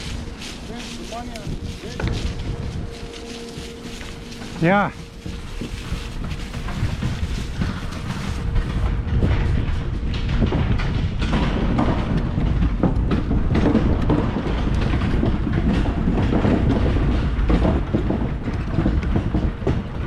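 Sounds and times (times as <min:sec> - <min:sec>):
bicycle rattles and clicks: 0:00.0 - 0:20.0
bicycle tyre rumble on trail: 0:00.0 - 0:20.0.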